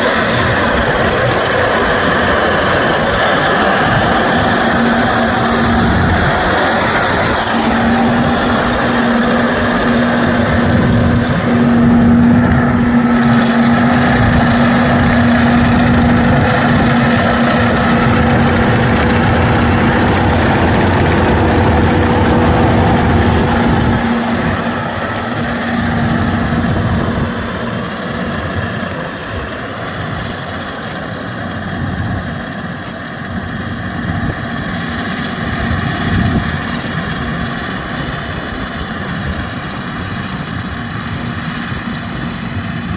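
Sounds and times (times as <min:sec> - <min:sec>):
combine harvester running: 0:00.0 - 0:42.9
steady whine: 0:00.0 - 0:42.9.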